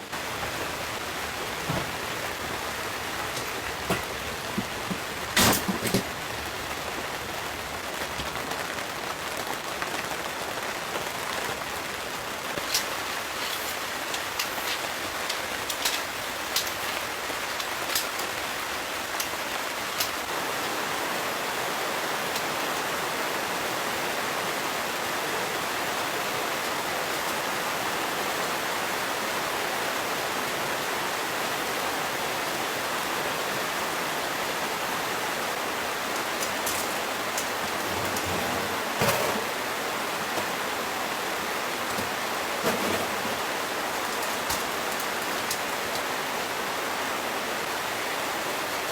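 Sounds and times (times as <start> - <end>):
heavy rain: 0.0 - 48.9
wind: 0.0 - 48.9.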